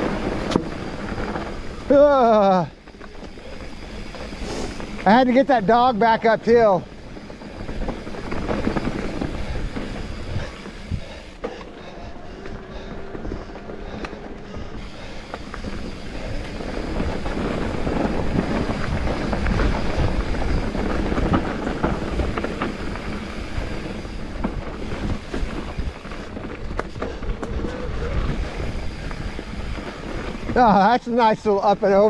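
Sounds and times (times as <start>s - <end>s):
bike rattling over bumps: 0.0s - 32.0s
tyre and wind noise: 0.0s - 32.0s.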